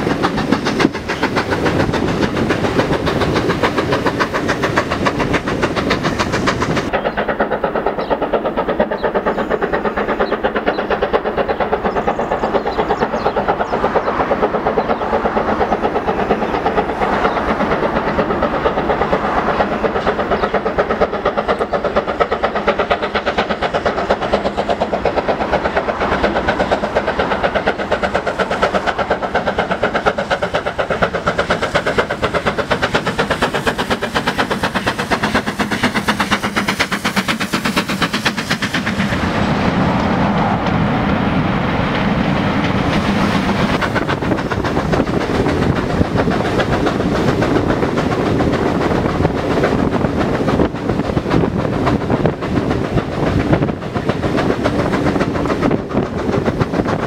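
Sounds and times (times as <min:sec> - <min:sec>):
steam locomotive exhaust beating: 0:00.0 - 0:57.0
train rumble inside carriage: 0:00.0 - 0:57.0.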